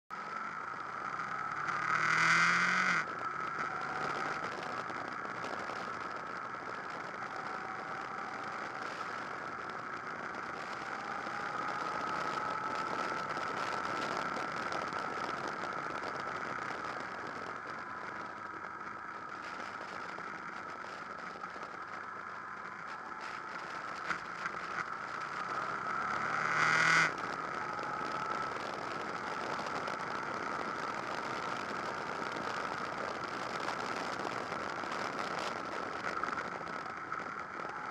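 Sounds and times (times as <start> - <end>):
motorcycle engine running: 0.1 - 37.9.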